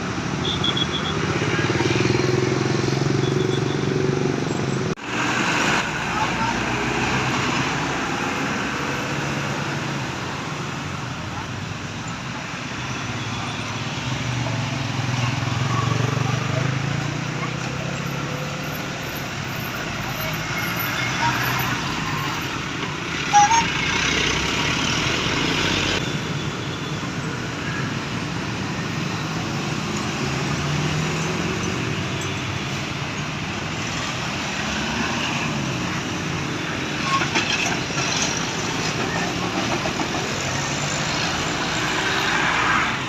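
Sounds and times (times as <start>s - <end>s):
vehicles passing on road: 0.0s - 43.0s.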